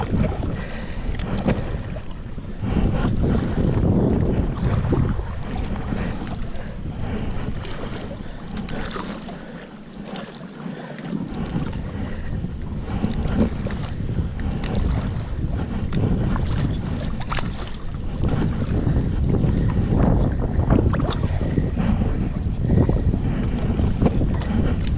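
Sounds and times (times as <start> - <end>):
paddle splashing water: 0.0 - 24.9
wind buffeting microphone: 0.0 - 24.9.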